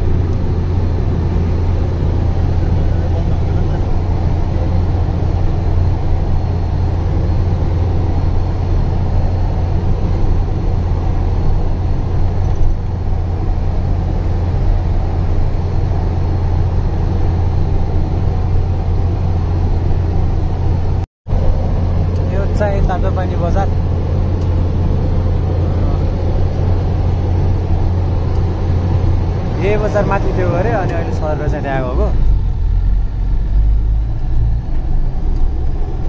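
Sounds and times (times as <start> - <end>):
road noise: 0.0 - 36.0
truck engine drone: 0.0 - 36.0.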